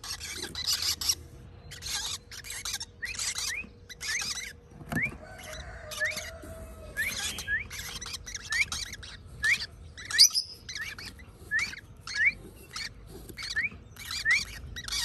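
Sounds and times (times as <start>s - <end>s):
parrot chicks begging calls: 0.0s - 15.0s.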